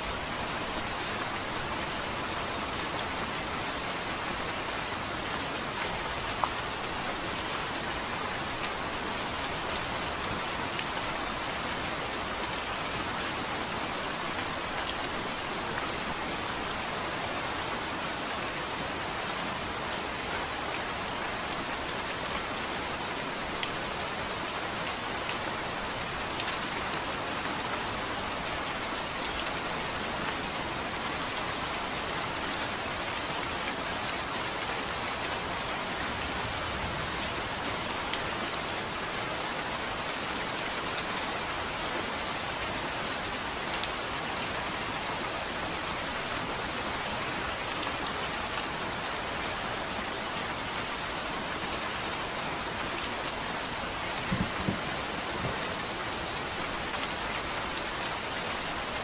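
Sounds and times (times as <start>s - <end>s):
heavy rain on a surface: 0.0s - 59.0s.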